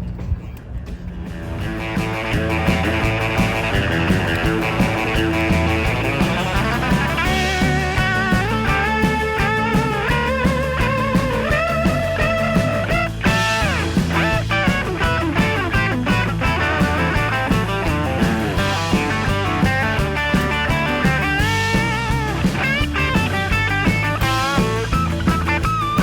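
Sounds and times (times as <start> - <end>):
rock music with electric guitar: 1.0 - 26.0.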